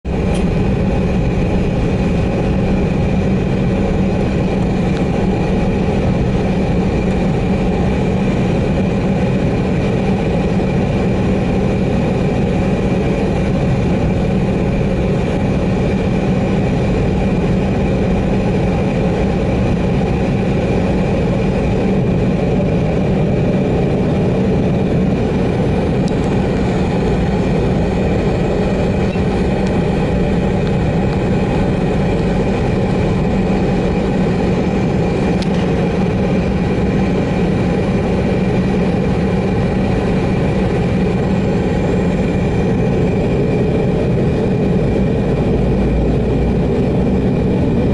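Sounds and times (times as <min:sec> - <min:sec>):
jet engines heard from cabin: 0:00.0 - 0:47.9.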